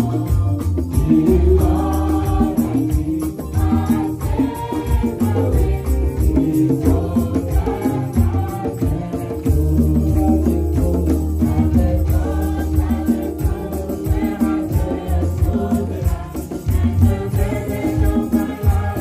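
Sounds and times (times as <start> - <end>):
congregation singing: 0.0 - 19.0
steady percussive beat: 0.0 - 19.0
women singing lead: 0.0 - 19.0.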